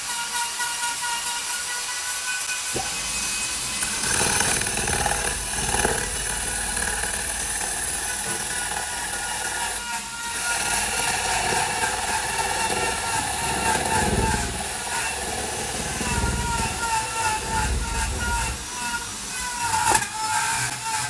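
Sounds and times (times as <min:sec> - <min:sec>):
power tool cutting wood: 0:00.0 - 0:21.0.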